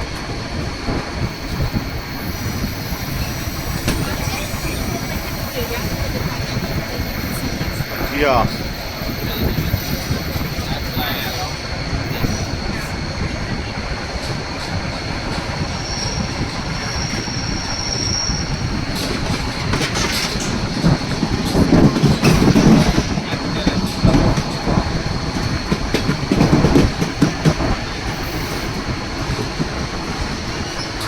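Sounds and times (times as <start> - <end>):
train wheels rumbling and clattering: 0.0 - 31.0.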